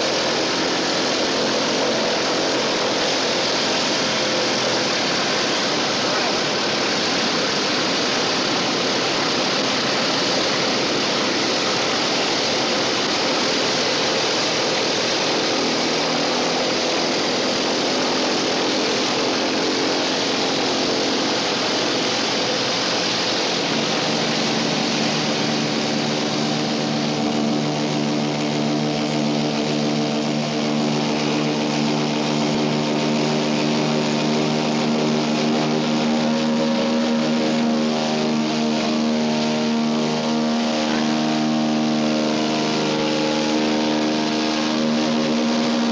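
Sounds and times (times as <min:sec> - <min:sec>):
aircraft cabin rushing drone: 0:00.0 - 0:45.9
engine hum with steady tones: 0:00.0 - 0:45.9.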